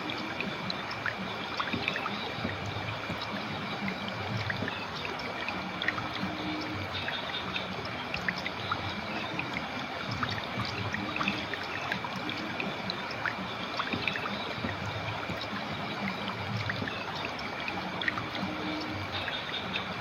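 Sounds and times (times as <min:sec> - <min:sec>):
river water flowing: 0:00.0 - 0:20.0
water plinks and trickles: 0:00.0 - 0:20.0.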